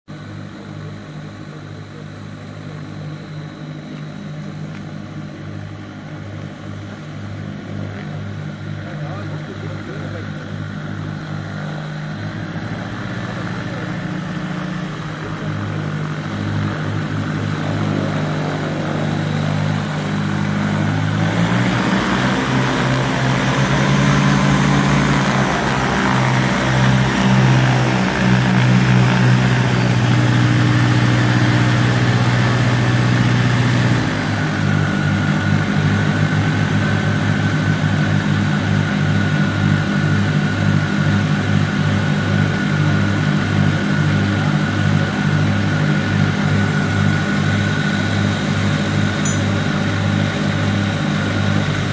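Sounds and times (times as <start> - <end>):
twin propeller aircraft engines: 0.1 - 51.9.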